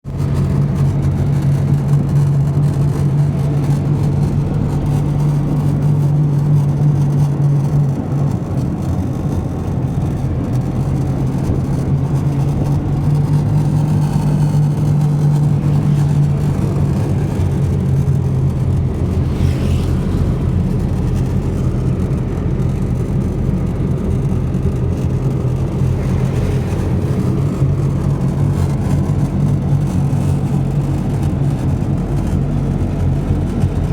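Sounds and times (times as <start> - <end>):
vehicle engine droning: 0.0 - 33.9.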